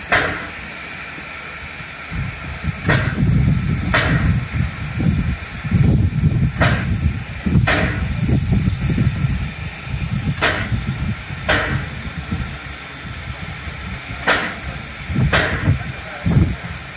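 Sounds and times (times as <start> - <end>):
steam locomotive steam bursts: 0.0 - 16.9
steady low rumble: 1.6 - 16.9.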